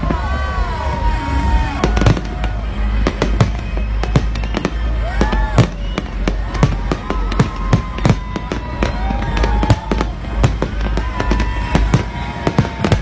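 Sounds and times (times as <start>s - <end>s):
long falling whistling tones: 0.2s - 13.0s.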